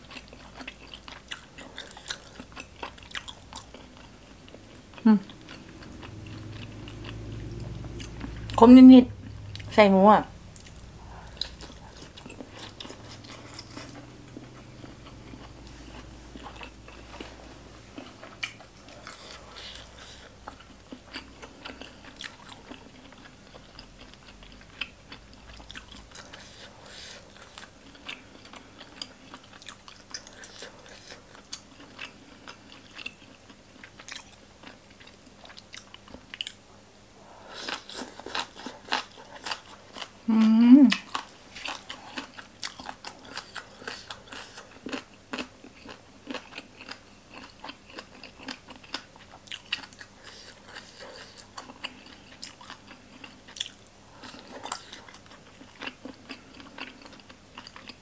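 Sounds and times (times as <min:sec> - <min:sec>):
close chewing and crunching: 0:00.0 - 0:09.8, 0:10.5 - 0:36.7, 0:37.3 - 0:58.0.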